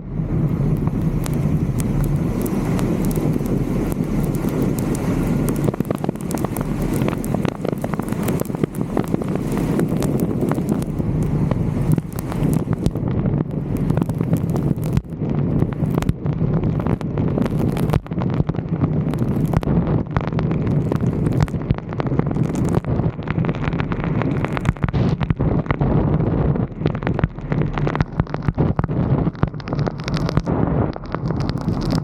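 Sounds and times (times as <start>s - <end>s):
steady low rumble: 0.0s - 32.0s
wind buffeting microphone: 0.0s - 32.0s.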